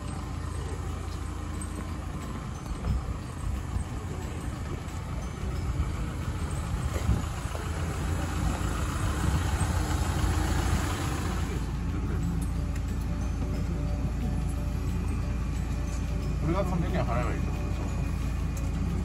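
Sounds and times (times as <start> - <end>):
minibus engine idling: 0.0 - 19.0.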